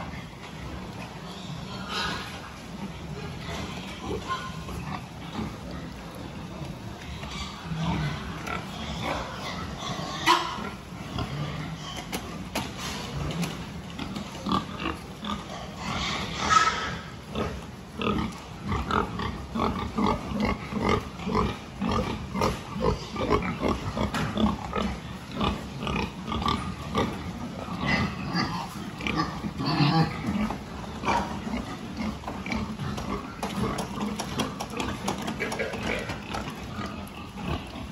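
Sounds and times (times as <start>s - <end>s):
young pigs grunting: 0.0s - 37.9s.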